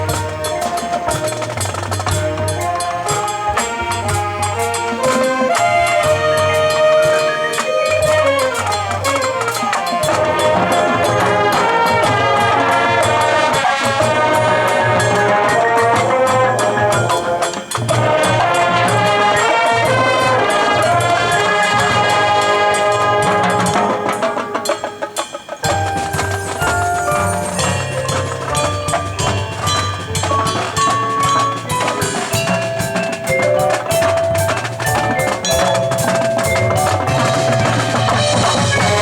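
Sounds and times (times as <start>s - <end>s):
brass melodic lines: 0.0s - 39.0s
marching band playing: 0.0s - 39.0s.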